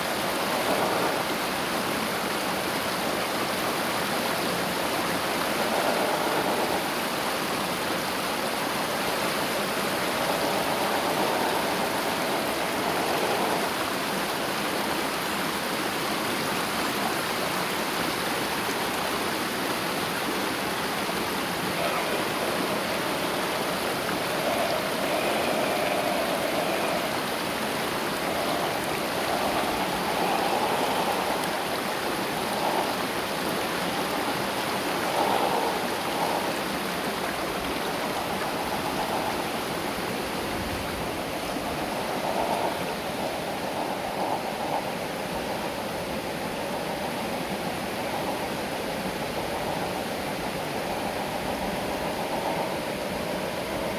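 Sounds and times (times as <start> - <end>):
river water rushing over stones: 0.0 - 53.9.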